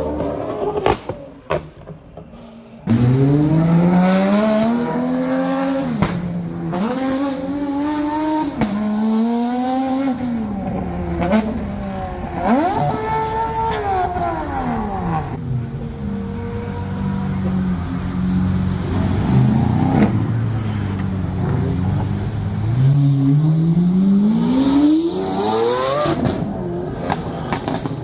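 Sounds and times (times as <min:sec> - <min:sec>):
car engine accelerating through gears: 0:02.9 - 0:28.0.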